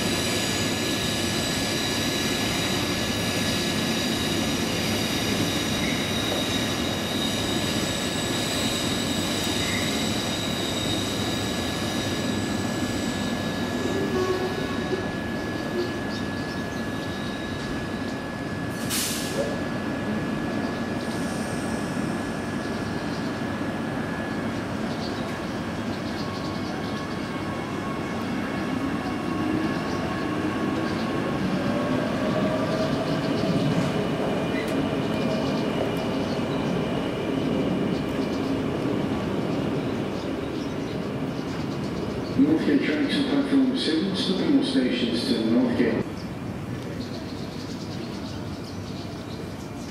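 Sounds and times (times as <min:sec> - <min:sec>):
electric train whine: 0:00.0 - 0:49.8.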